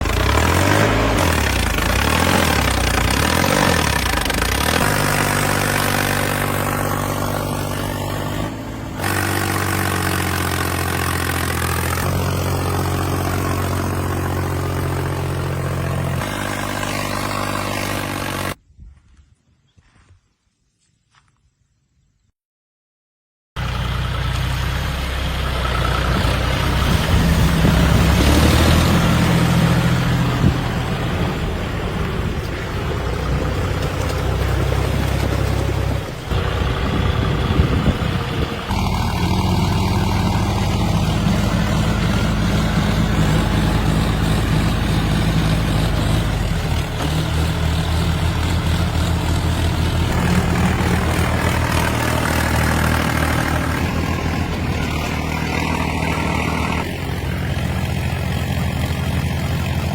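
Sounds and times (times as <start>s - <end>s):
tractor diesel engines running: 0.0s - 18.6s, 23.6s - 59.9s.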